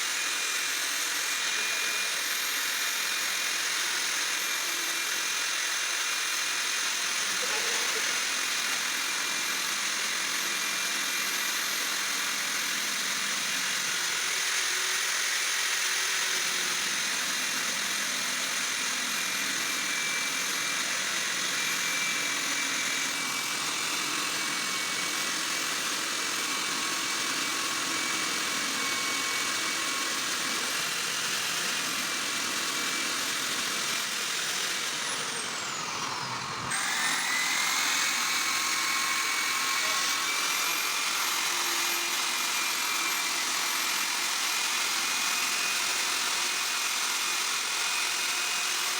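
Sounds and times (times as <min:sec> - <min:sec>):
core drill motor whine: 0:00.0 - 0:48.9
drill bit grinding concrete: 0:00.0 - 0:48.9.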